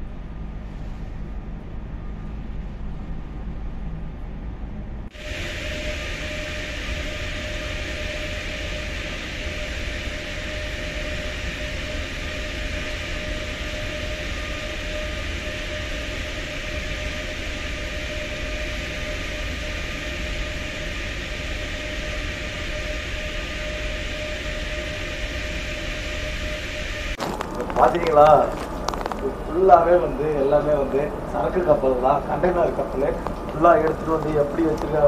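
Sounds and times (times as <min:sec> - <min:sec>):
humming whine: 0:00.0 - 0:35.0
ship machinery hiss: 0:05.1 - 0:35.0.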